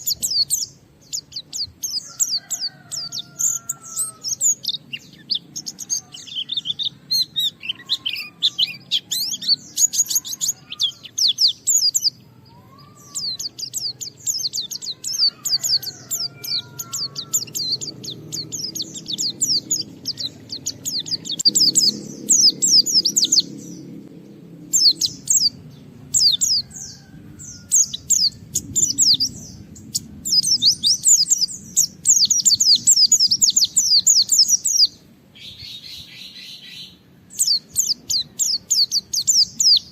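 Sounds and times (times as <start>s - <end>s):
white-eye singing chattering song: 0.0s - 39.9s.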